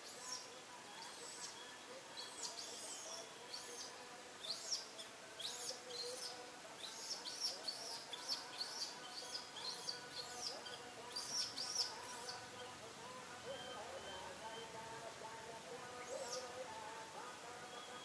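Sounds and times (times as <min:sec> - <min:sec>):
small birds chirping: 0:00.0 - 0:14.8, 0:15.8 - 0:16.7.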